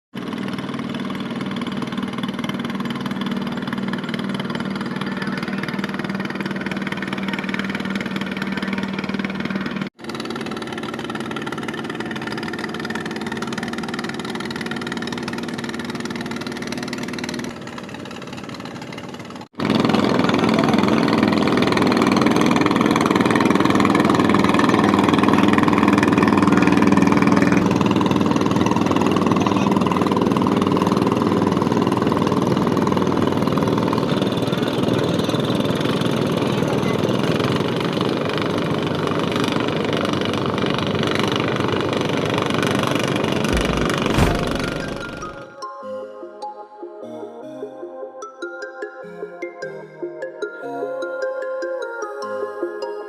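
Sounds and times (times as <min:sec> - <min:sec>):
boat engines running: 0:00.2 - 0:45.5.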